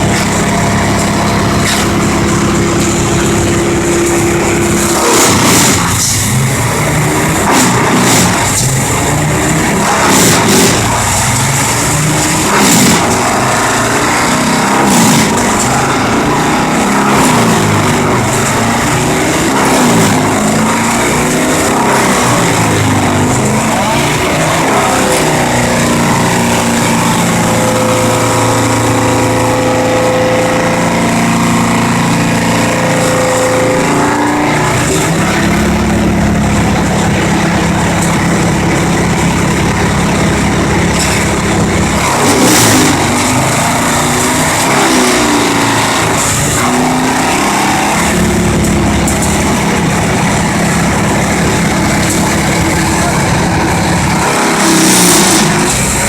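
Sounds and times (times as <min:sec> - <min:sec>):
wood chipper running: 0:00.0 - 0:56.0.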